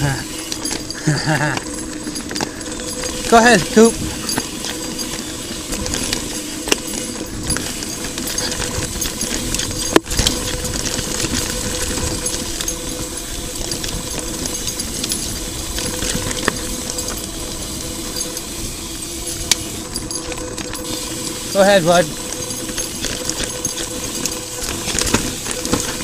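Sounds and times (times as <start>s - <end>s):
bike tyres rolling on dirt: 0.0s - 26.0s
chain and frame rattling: 0.0s - 26.0s.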